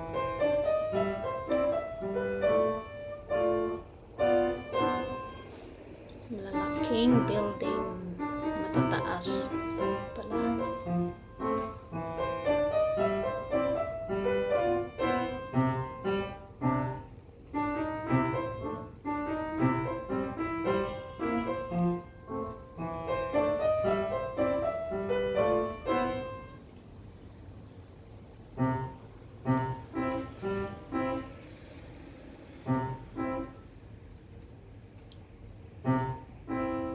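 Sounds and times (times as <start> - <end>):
solo piano music: 0.0 - 36.9.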